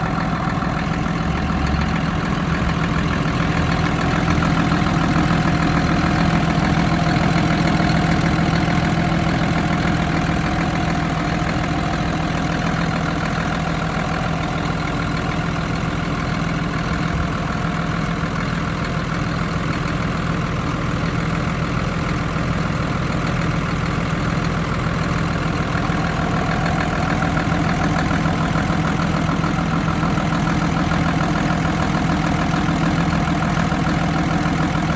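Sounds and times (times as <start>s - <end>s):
truck engine idling: 0.0s - 34.9s.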